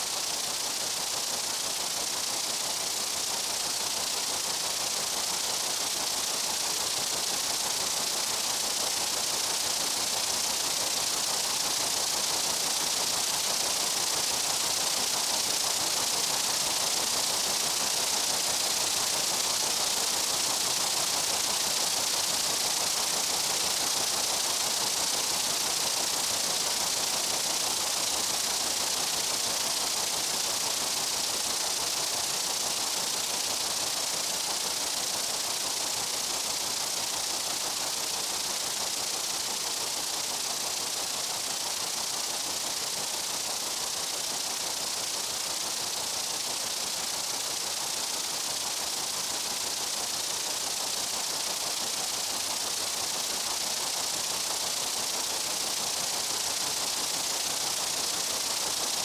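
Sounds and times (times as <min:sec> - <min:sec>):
insect chorus hiss: 0:00.0 - 0:59.0.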